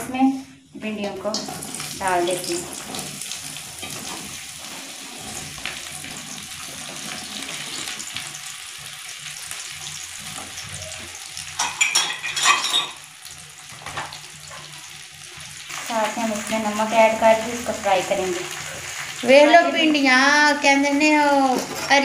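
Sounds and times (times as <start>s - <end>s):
okra sizzling in hot oil: 0.8s - 22.0s.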